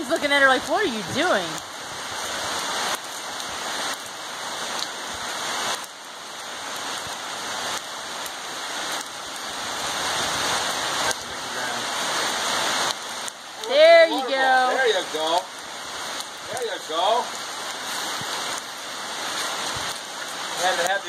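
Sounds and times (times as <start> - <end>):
rain on wet concrete: 0.0 - 21.0.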